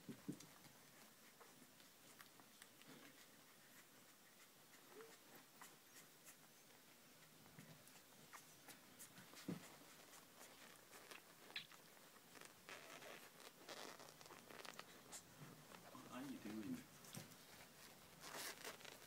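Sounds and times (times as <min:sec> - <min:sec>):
puppies suckling clicks: 0:00.0 - 0:15.9.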